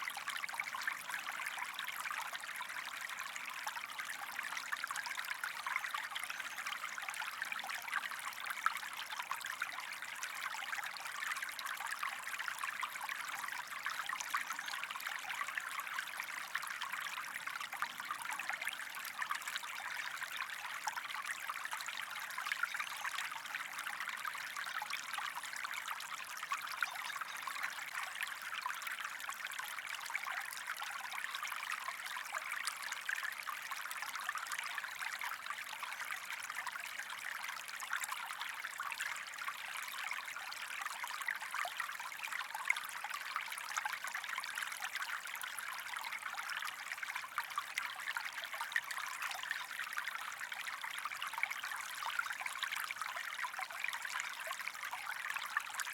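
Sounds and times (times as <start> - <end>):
small stream trickling: 0.0 - 55.9.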